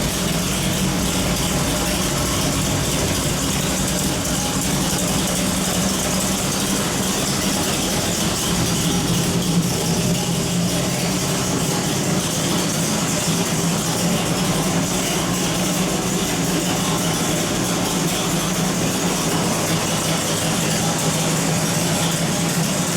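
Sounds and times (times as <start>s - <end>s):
engine droning loudly: 0.0s - 22.9s.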